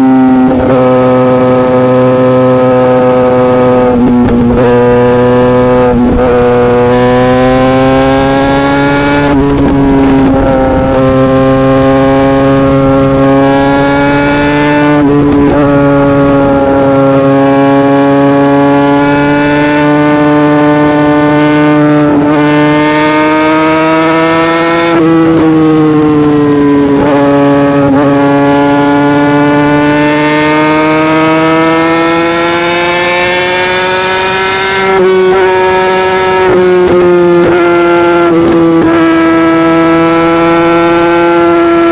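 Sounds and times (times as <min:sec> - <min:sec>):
motorcycle engine at high revs: 0:00.0 - 0:41.9.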